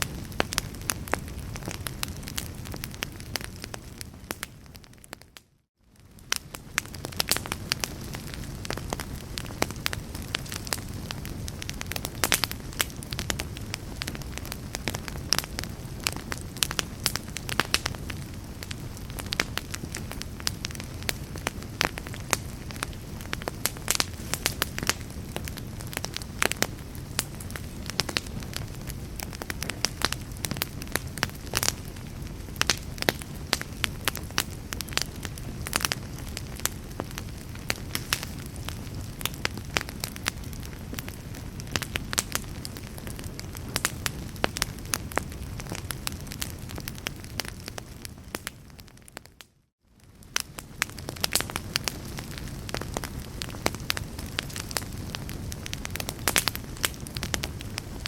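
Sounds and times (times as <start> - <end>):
flames rushing: 0.0 - 5.2, 6.0 - 49.2, 50.1 - 58.0
burning wood crackling and popping: 0.0 - 58.0.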